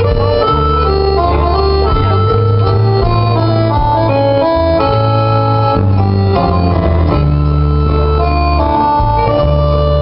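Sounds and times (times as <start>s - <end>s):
acoustic guitar: 0.0s - 10.0s
bass line: 0.0s - 10.0s.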